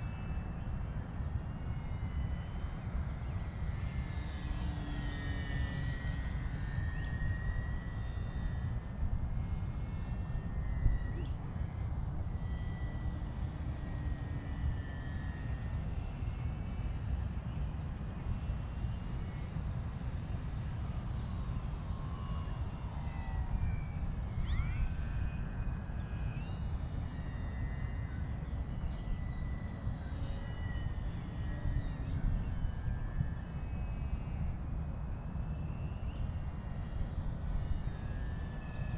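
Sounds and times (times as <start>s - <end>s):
rc airplane motor whining: 0.0s - 38.9s.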